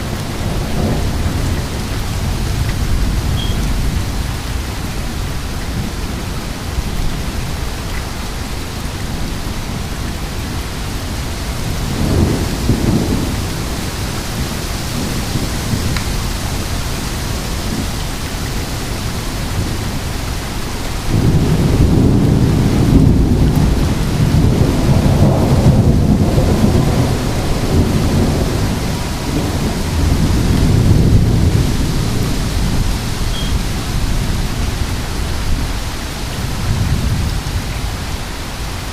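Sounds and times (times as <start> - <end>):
thunder rumbling: 0.0 - 7.8, 9.1 - 38.9
heavy rain falling: 0.0 - 38.9.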